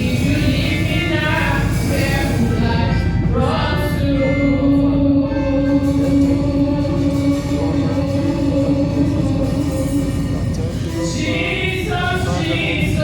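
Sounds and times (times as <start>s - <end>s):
congregation singing: 0.0s - 13.0s
instrumental accompaniment: 0.0s - 13.0s.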